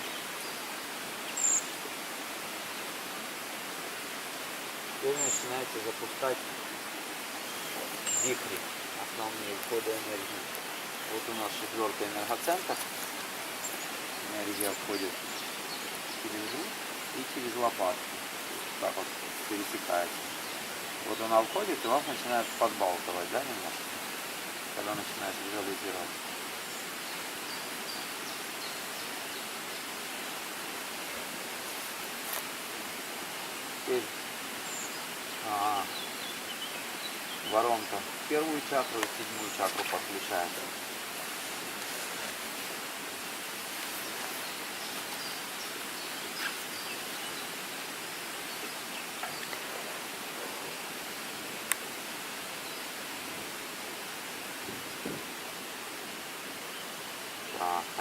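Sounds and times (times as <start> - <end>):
outdoor ambience hiss: 0.0 - 58.0.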